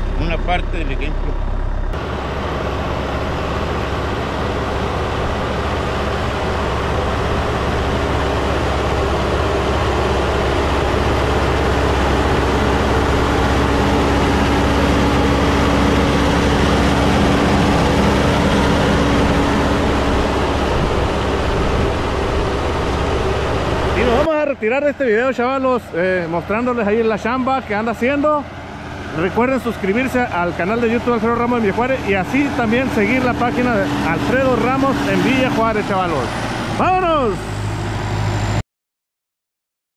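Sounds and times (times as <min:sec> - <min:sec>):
tractor diesel engine running: 0:00.0 - 0:38.6.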